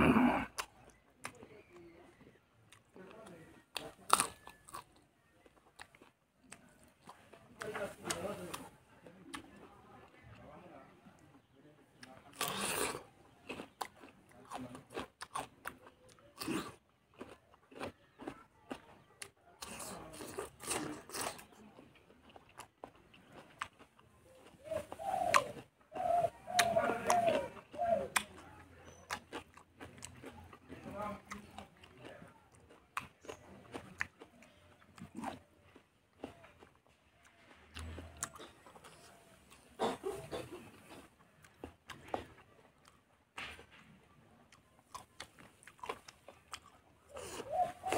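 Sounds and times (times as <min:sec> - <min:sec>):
chewing and wet smacking: 0:00.4 - 0:47.9.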